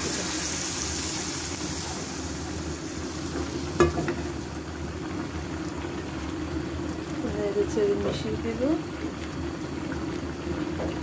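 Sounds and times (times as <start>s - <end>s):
curry bubbling: 0.0s - 11.0s
oil sizzling in a pan: 0.0s - 11.0s.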